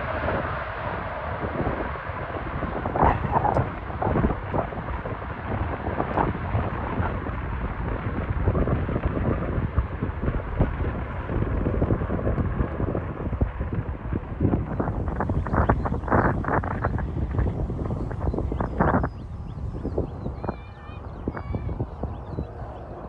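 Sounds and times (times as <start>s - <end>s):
gusty wind on microphone: 0.0s - 23.0s.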